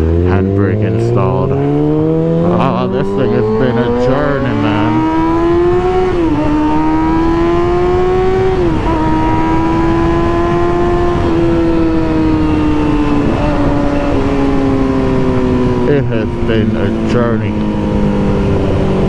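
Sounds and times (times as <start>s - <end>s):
motorcycle engine at high revs: 0.0s - 19.0s
wind rush: 1.0s - 19.0s.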